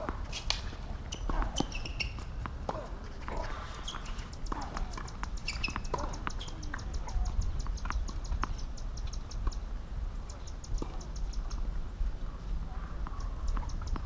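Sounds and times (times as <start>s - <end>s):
wind rumble on microphone: 2.2s - 14.0s.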